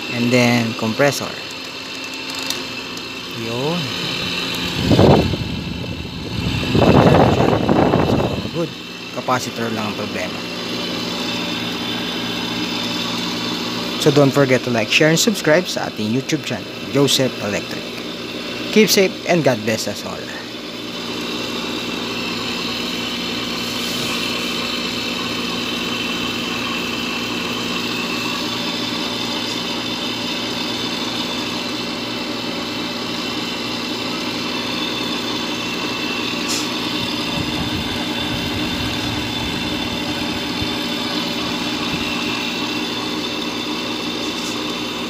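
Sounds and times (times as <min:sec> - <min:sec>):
air conditioner humming: 0:00.0 - 0:45.0.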